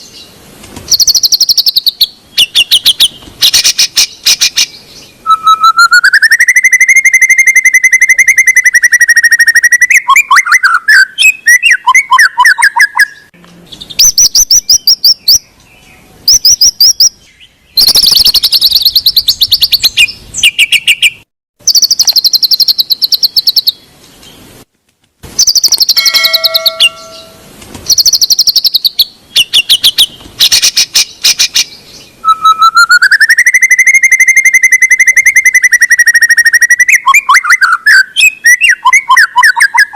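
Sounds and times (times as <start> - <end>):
bird singing trills and whistles: 0.9 - 24.4, 25.4 - 39.9.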